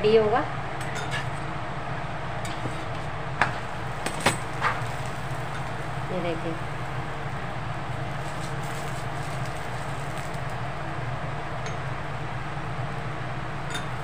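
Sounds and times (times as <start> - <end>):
gas stove burner humming and hissing: 0.0 - 14.0.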